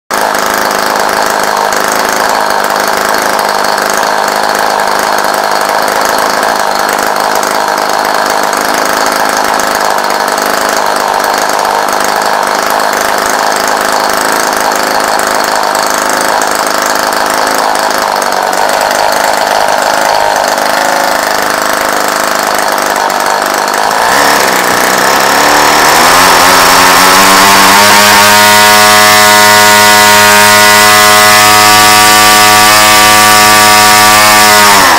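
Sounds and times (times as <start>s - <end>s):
model aircraft engine running: 0.1s - 34.9s.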